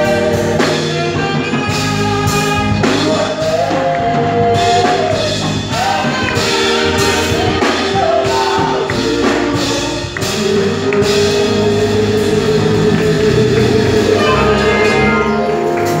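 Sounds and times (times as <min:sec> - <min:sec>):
choir singing a carol: 0:00.0 - 0:16.0
instrumental accompaniment with beat: 0:00.0 - 0:16.0.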